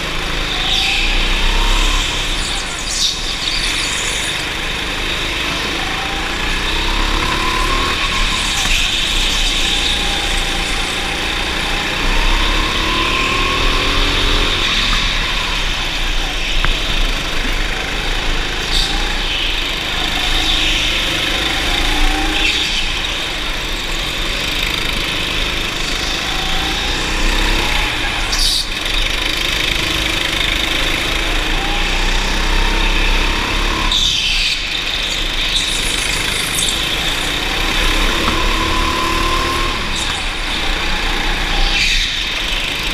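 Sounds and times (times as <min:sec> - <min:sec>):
go-kart engine revving: 0:00.0 - 0:42.9.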